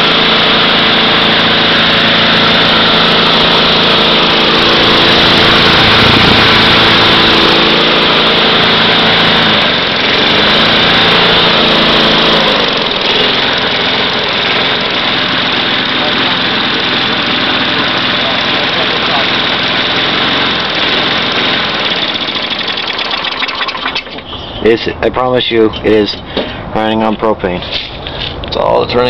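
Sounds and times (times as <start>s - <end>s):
lawn mower engine running: 0.0s - 25.1s.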